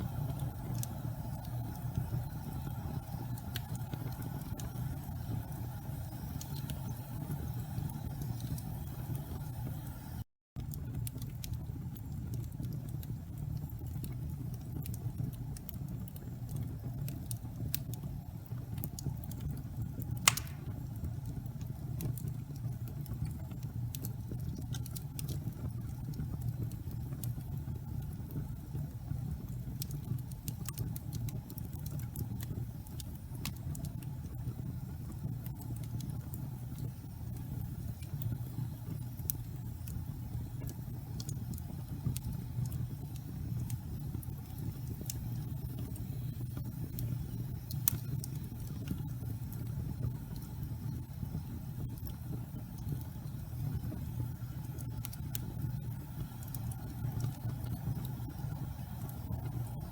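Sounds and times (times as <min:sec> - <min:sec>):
fire crackles and pops: 0:00.0 - 0:59.9
fireplace flames rumbling: 0:00.0 - 0:59.9.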